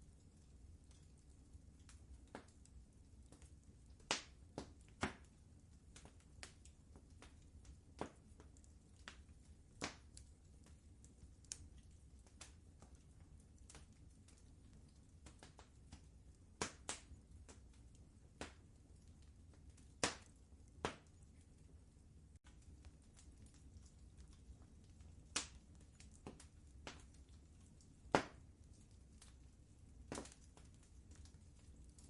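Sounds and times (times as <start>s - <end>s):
low steady rumble: 0.0s - 32.0s
wood fire crackling: 0.0s - 32.0s.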